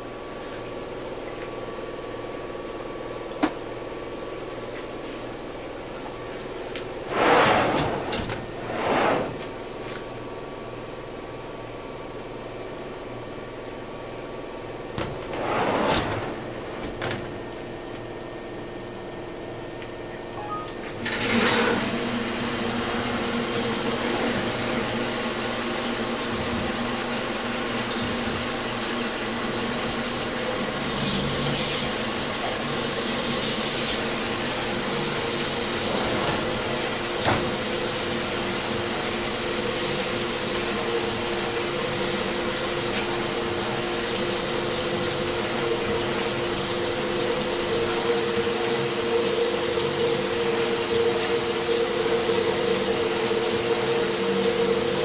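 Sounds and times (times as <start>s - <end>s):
milling machine hum: 0.0s - 55.0s.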